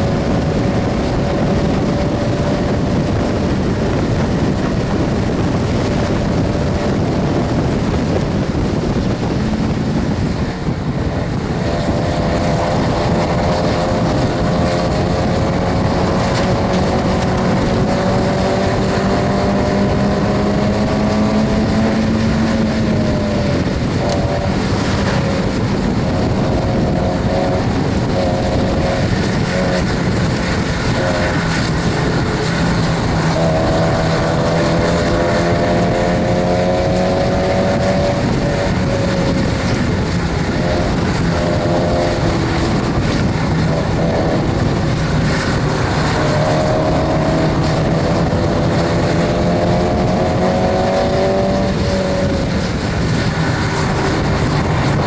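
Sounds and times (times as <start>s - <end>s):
car engine under load: 0.0s - 55.0s
road and wind noise: 0.0s - 55.0s.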